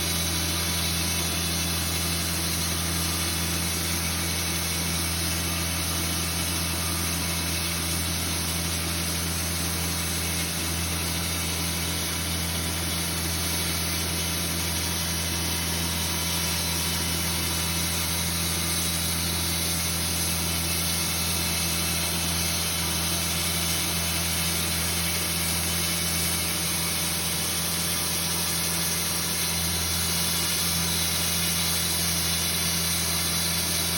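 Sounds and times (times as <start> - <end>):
sawmill machinery drone: 0.0 - 33.9.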